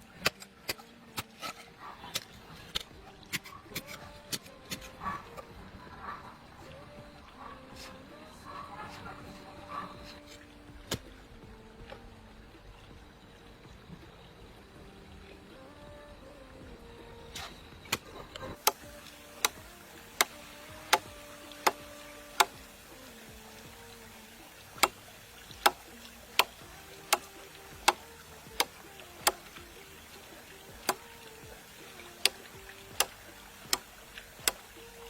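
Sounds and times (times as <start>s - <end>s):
faint background music: 0.0s - 35.0s.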